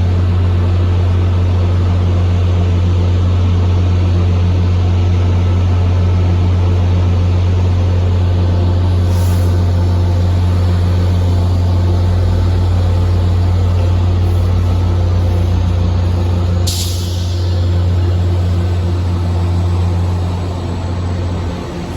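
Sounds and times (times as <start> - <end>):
diesel locomotive engine idling: 0.0 - 21.9.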